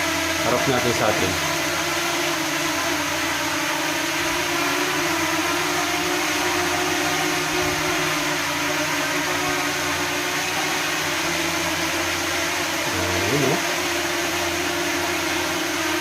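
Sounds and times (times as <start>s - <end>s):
drone propellers whirring: 0.0s - 16.0s
electric fans rushing air: 0.0s - 16.0s.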